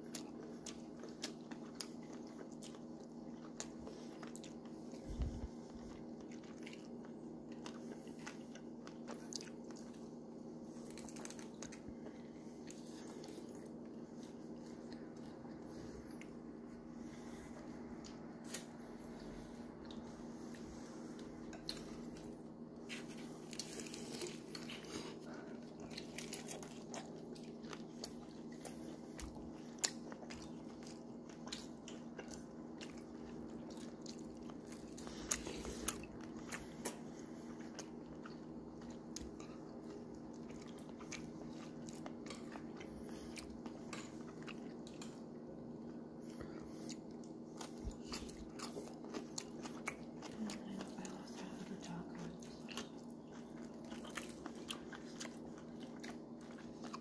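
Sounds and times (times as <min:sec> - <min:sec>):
chewing and crunching tacos: 0:00.0 - 0:57.0
steady low hum: 0:00.0 - 0:57.0.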